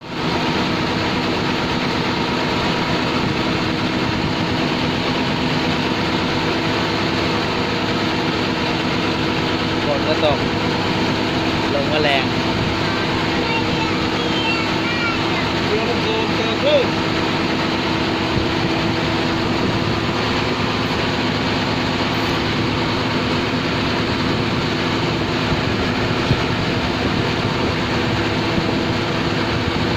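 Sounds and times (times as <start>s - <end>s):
ferry engine running: 0.0s - 29.9s
even rushing noise: 2.7s - 29.9s.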